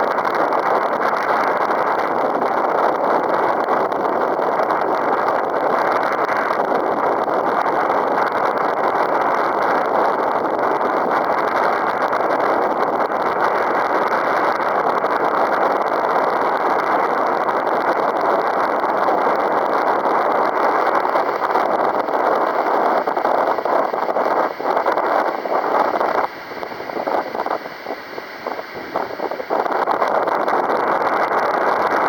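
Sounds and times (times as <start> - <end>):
strong wind on microphone: 0.0 - 32.0.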